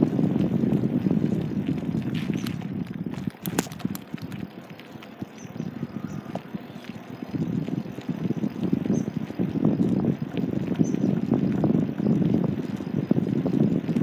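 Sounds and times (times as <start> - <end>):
wheels rumbling on asphalt: 0.0 - 14.0
wind buffeting microphone: 0.0 - 14.0.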